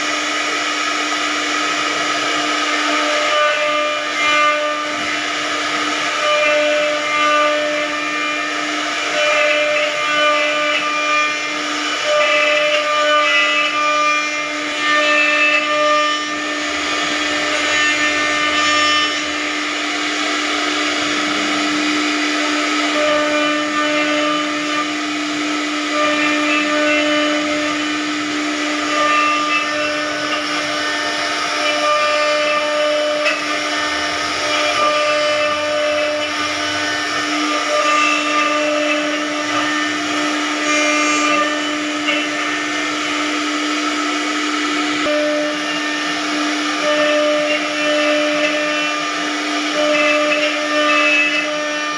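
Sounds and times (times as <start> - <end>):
electric motor whining: 0.0 - 51.9.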